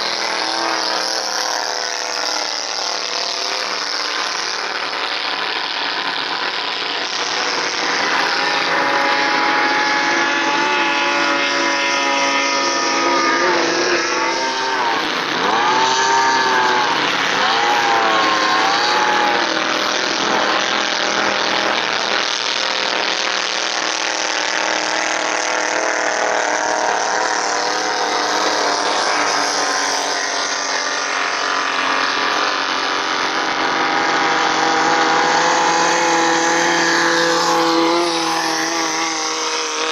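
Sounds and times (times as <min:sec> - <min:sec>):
speedboat outboard engines racing: 0:00.0 - 0:39.9.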